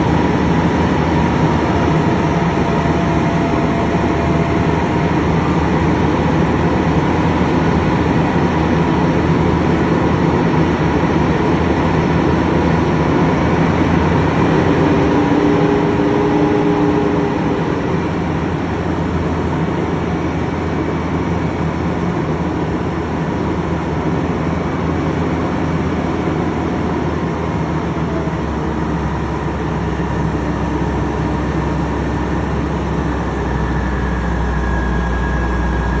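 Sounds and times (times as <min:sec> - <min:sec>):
heavy engine droning: 0:00.0 - 0:36.0.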